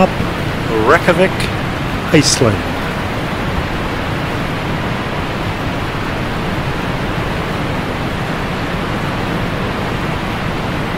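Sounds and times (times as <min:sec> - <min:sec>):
waterfall roaring: 0:00.0 - 0:10.9.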